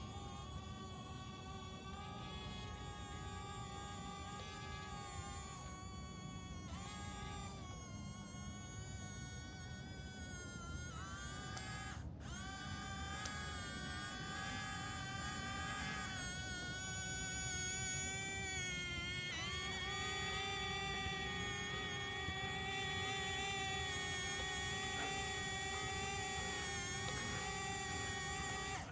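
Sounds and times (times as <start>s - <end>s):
toy electric motors whining: 0.0s - 28.9s.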